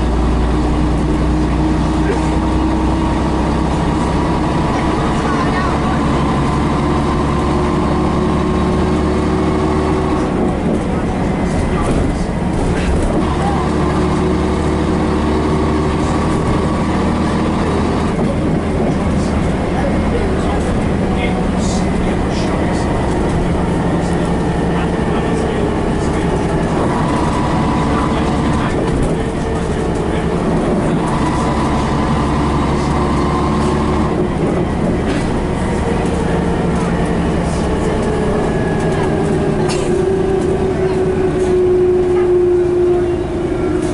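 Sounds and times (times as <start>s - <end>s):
diesel bus engine running: 0.0s - 43.9s.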